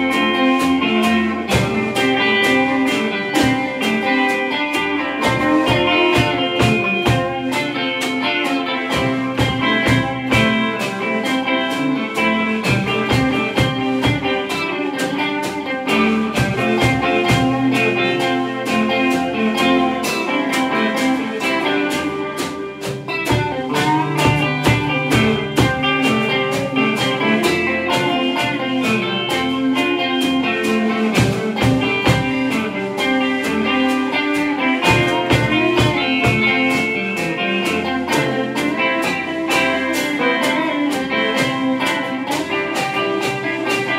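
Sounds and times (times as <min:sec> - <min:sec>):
drum kit steady beat: 0:00.0 - 0:43.9
electric guitars playing blues-rock: 0:00.0 - 0:43.9.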